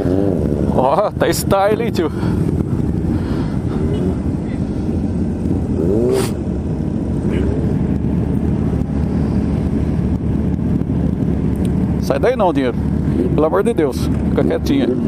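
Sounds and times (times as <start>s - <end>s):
motorcycle engine at low revs: 0.0s - 15.0s
motorcycles idling: 0.0s - 15.0s.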